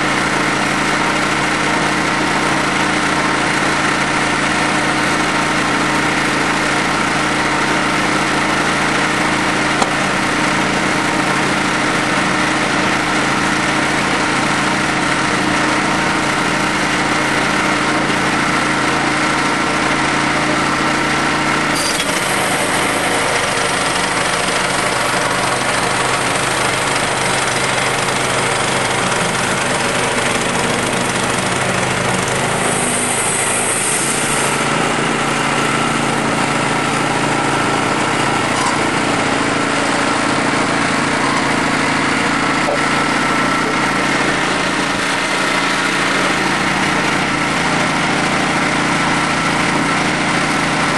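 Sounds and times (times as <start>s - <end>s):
sawmill engine running under load: 0.0s - 50.9s.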